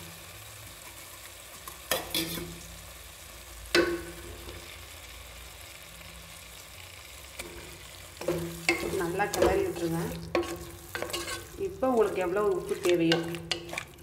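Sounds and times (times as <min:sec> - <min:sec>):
chicken sizzling in masala: 0:00.0 - 0:14.0.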